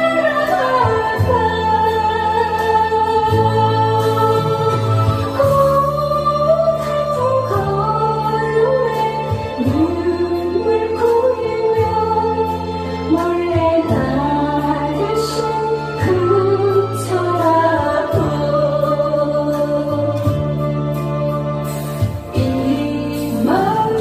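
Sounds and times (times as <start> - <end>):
backing music with beat: 0.0 - 24.0
woman singing into microphone: 0.0 - 24.0.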